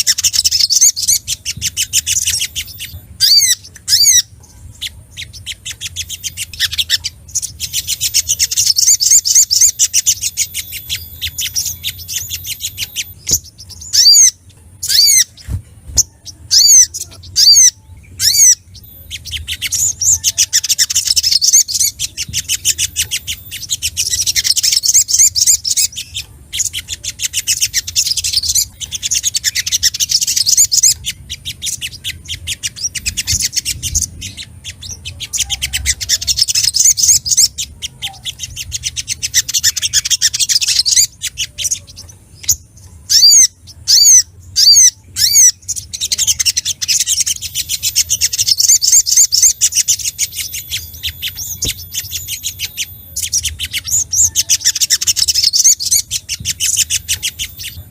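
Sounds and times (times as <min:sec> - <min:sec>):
bird singing high twittering trills: 0:00.0 - 0:57.9.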